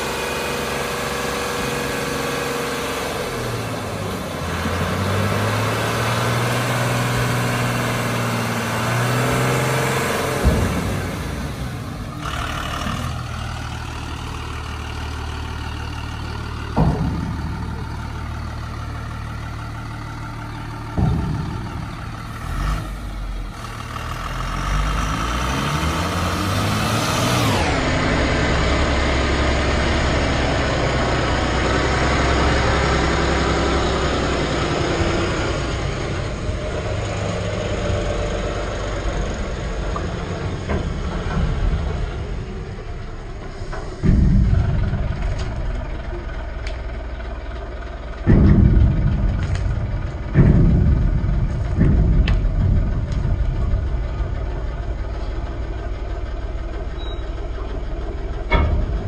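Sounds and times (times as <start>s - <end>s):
diesel truck engine idling and revving: 0.0s - 59.0s.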